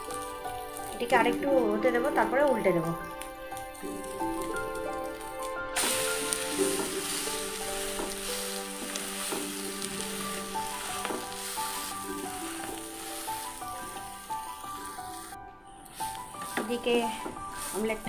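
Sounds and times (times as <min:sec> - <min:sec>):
omelette sizzling in oil: 0:00.0 - 0:18.0.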